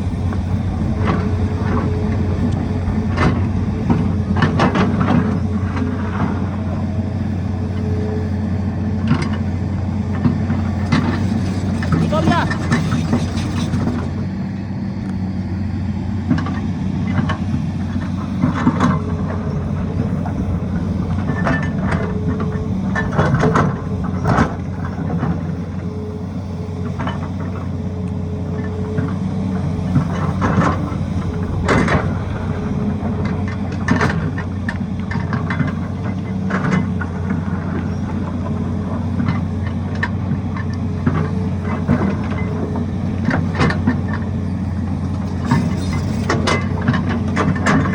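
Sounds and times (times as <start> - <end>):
faint whine: 0.0 - 39.4
excavator diesel engine running: 0.0 - 47.9.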